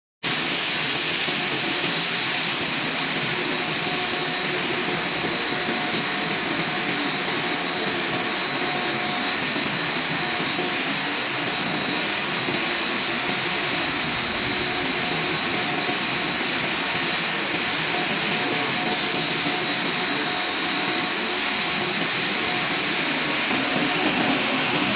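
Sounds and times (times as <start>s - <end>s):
high machine whine: 0.3s - 24.9s
production line machinery running: 0.3s - 24.9s.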